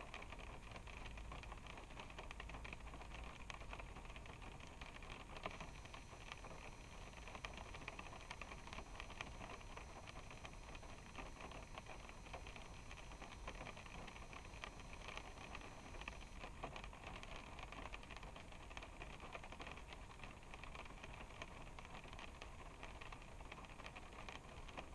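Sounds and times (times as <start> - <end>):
rain on a car: 0.0 - 24.9.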